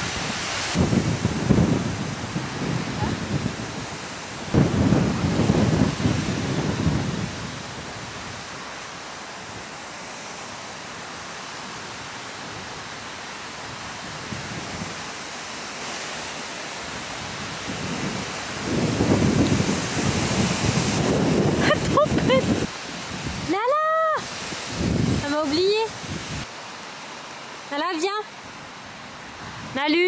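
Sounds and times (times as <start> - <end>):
wind buffeting microphone: 0.0 - 8.8, 11.8 - 26.5, 28.5 - 30.0.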